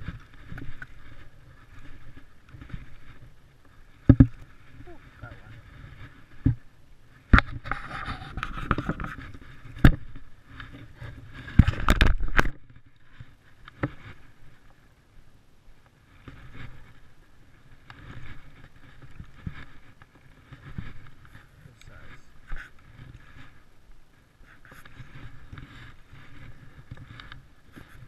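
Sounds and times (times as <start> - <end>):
fabric rubbing on microphone: 0.0 - 6.7, 7.3 - 12.5, 16.1 - 28.0.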